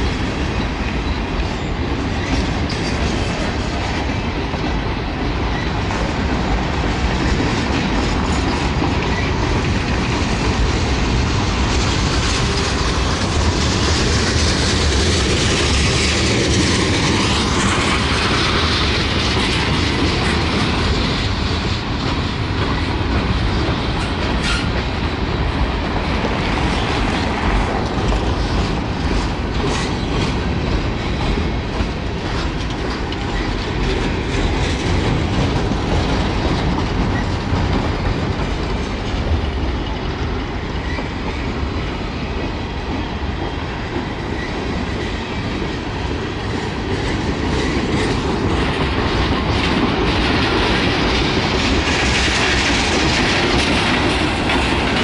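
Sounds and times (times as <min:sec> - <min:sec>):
train wheels rumbling on rail: 0:00.0 - 0:55.0
wheels clicking over track: 0:00.0 - 0:55.0.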